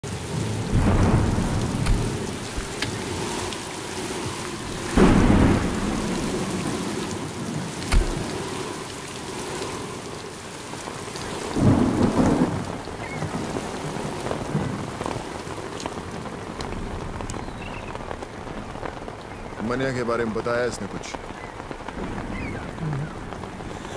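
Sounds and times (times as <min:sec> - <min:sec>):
thunder rumbling: 0:00.0 - 0:09.5, 0:10.8 - 0:20.4, 0:21.1 - 0:23.9
steady rain falling: 0:00.0 - 0:23.9.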